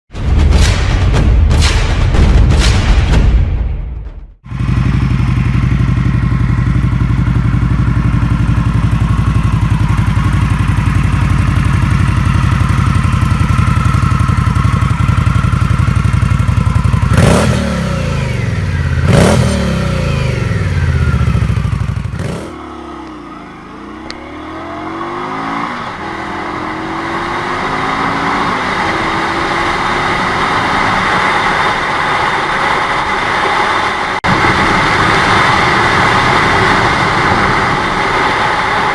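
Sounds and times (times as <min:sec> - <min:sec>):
motorcycle engine running and revving: 0:04.4 - 0:38.9.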